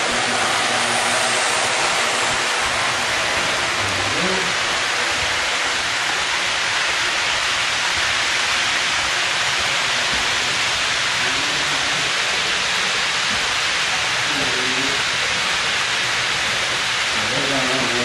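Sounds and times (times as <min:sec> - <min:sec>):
model train cars rolling on track: 0:00.0 - 0:18.0.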